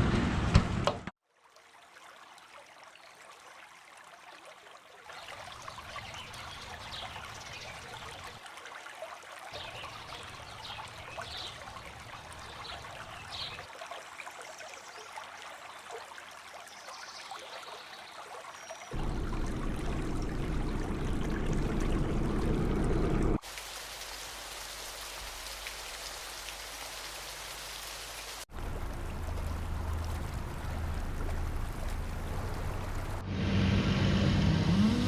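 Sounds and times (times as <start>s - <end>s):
trickling running water: 1.4s - 33.2s.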